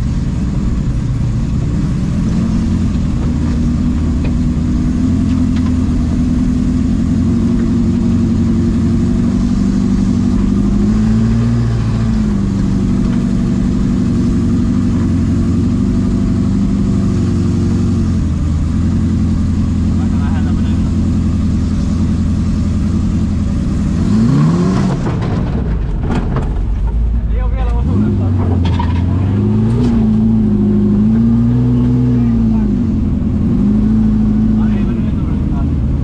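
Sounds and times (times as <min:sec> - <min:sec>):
off-road buggy engine running: 0:00.0 - 0:36.0.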